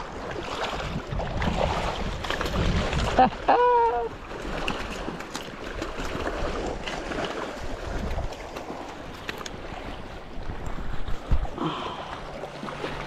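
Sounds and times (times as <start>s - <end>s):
wind buffeting microphone: 0.0s - 11.8s
splashing water: 0.0s - 13.0s.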